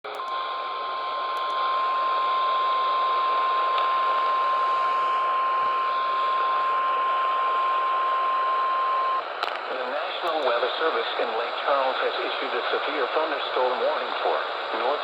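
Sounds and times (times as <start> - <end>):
radio static hiss: 0.1 - 15.0.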